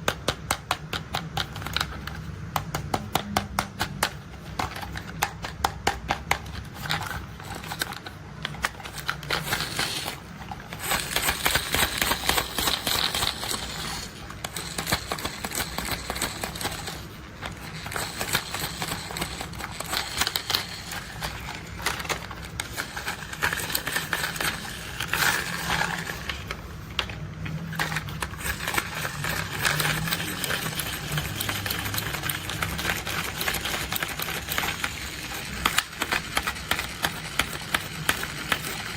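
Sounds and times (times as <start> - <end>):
plastic toys clicking and tapping: 0.0 - 38.9
plastic toys rattling and scraping: 0.0 - 38.9.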